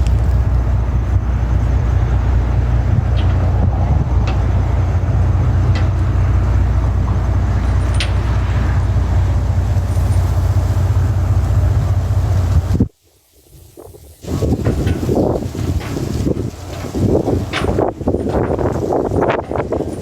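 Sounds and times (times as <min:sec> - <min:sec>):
large engine rumbling: 0:00.0 - 0:12.9, 0:14.2 - 0:20.0.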